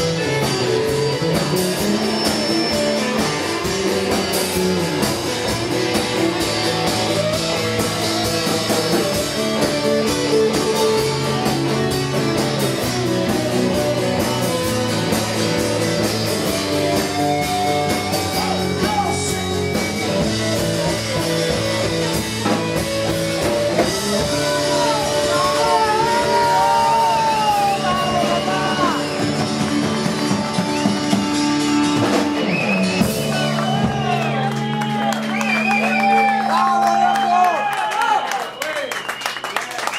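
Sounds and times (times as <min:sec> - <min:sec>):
live rock band playing: 0:00.0 - 0:37.8.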